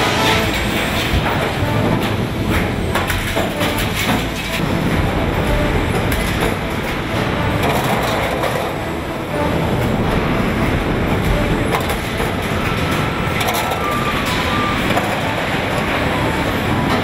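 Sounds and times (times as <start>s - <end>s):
metallic knocks and clatter: 0.0s - 17.0s
stamping press mechanical din: 0.0s - 17.0s.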